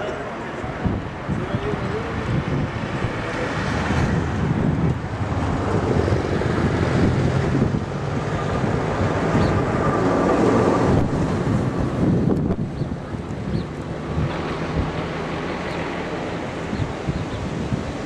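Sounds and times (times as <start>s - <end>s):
jet engines rumbling: 0.0s - 18.0s
wind buffeting microphone: 0.0s - 18.0s.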